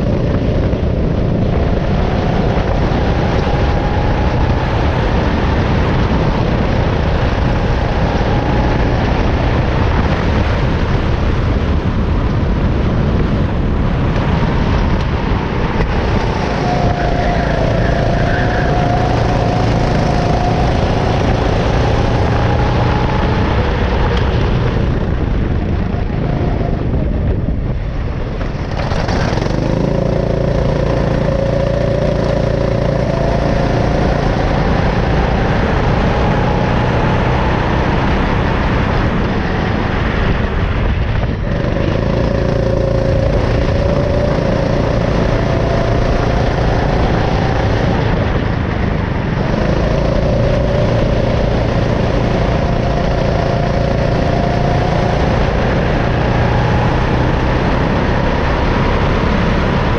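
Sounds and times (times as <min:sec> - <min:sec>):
go-kart engine accelerating: 0:00.0 - 0:59.9.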